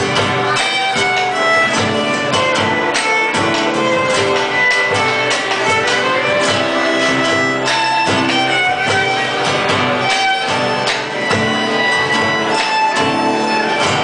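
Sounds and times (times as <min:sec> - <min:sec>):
acoustic guitars strumming: 0:00.0 - 0:14.0
violin melody: 0:00.0 - 0:14.0.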